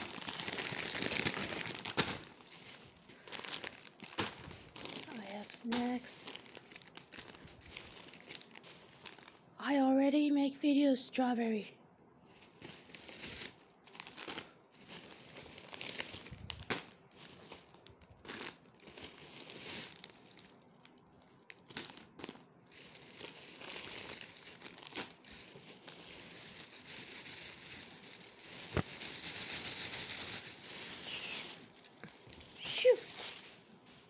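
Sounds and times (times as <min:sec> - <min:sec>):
plastic packets crinkling: 0:00.0 - 0:09.5, 0:12.2 - 0:34.0.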